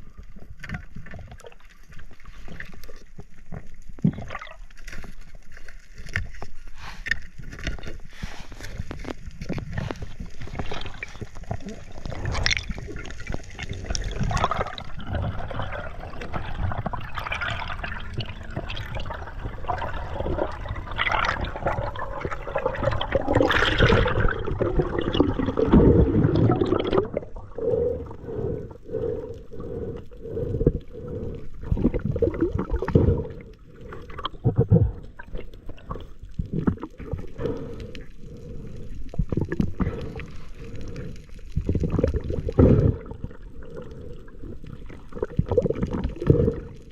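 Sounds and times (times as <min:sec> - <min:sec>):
seawater gurgling and sloshing: 0:00.0 - 0:46.9.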